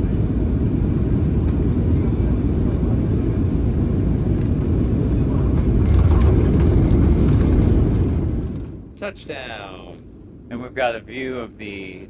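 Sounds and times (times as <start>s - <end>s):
jet engines roaring: 0.0s - 10.7s.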